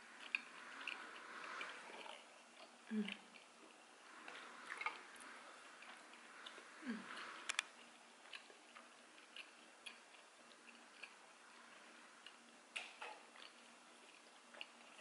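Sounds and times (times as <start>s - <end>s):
chewing sticky rice cakes: 0.0s - 15.0s.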